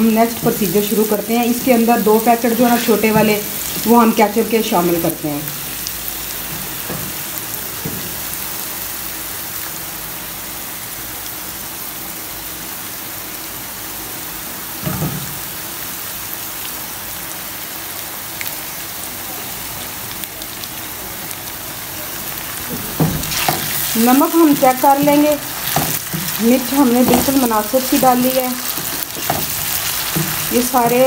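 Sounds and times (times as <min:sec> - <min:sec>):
vegetables sizzling in a frying pan: 0:00.0 - 0:31.0.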